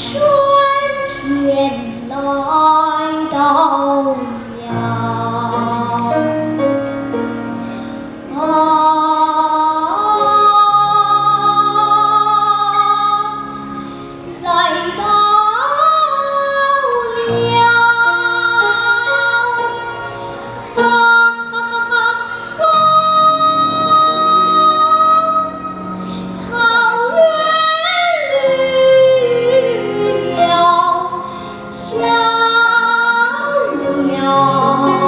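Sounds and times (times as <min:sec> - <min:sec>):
girl singing: 0:00.0 - 0:06.6, 0:08.3 - 0:13.6, 0:14.2 - 0:35.0
musical accompaniment: 0:00.0 - 0:35.0.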